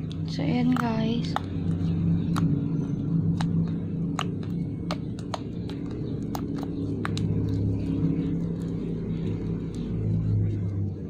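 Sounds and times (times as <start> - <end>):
slime clicking and popping: 0.0 - 9.8
steady low hum: 0.0 - 11.0.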